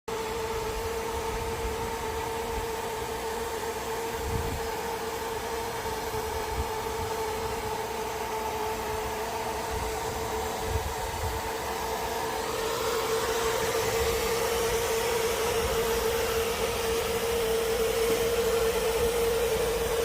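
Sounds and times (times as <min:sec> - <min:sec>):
air conditioner humming: 0:00.1 - 0:20.0
fan air rushing: 0:00.1 - 0:20.0.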